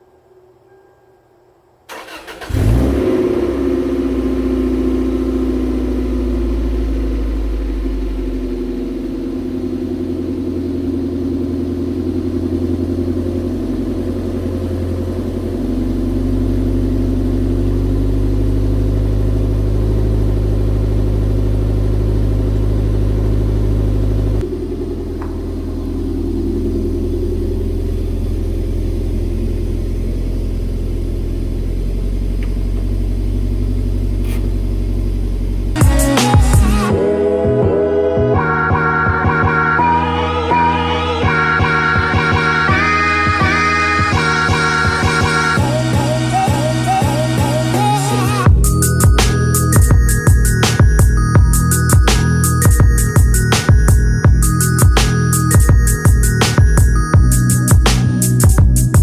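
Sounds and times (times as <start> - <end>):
car engine running: 1.9 - 59.0.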